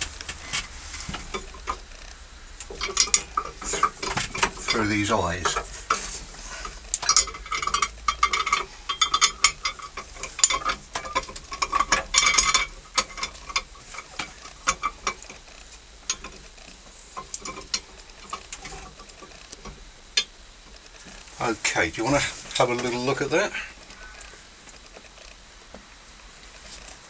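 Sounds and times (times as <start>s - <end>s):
metal clinking and scraping: 0.0s - 25.3s.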